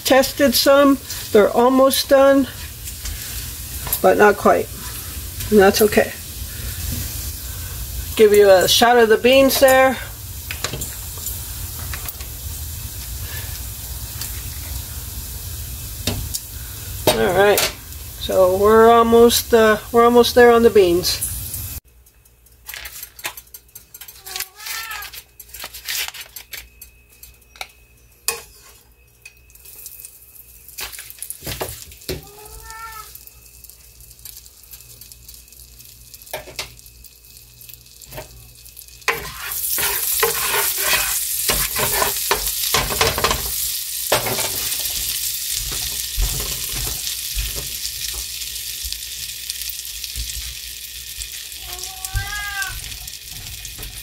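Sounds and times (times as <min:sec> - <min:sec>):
grease sizzling in a frying pan: 0:00.0 - 0:26.9, 0:28.2 - 0:54.0.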